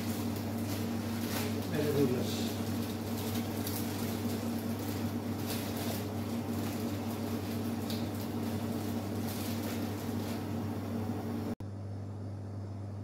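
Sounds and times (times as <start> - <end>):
plastic bag crinkling: 0.0 - 10.7
kitchen machine hum: 0.0 - 13.0.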